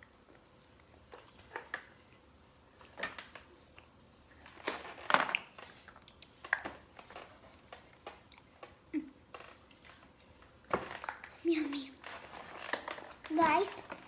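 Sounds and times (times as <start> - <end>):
cookie crunching: 0.0 - 13.3.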